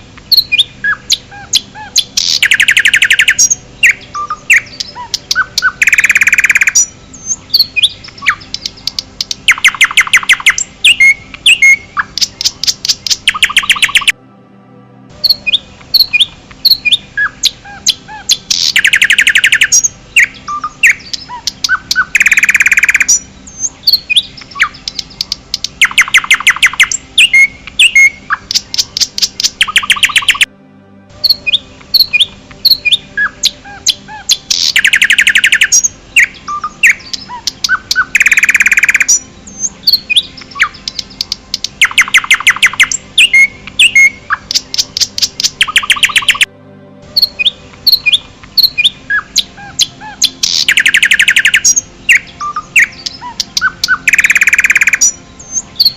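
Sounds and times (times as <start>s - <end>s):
birds chirping: 0.0s - 14.2s, 15.1s - 30.5s, 31.2s - 46.5s, 47.1s - 55.9s
fast bird trills: 0.3s - 14.1s, 15.2s - 30.5s, 32.0s - 46.5s, 47.2s - 55.9s.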